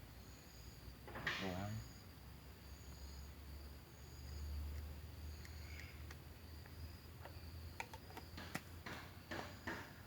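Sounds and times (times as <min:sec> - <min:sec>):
faint insects chirring: 0:00.0 - 0:10.0.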